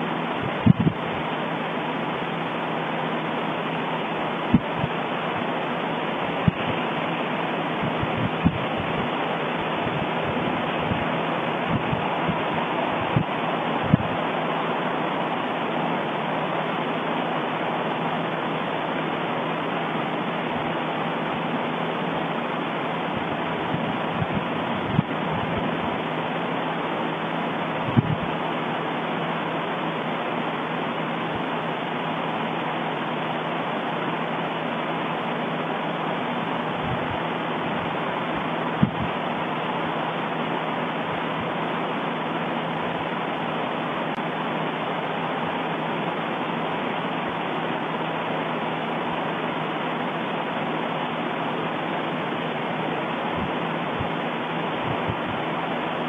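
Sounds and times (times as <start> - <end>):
volcano eruption rushing: 0.0 - 56.0.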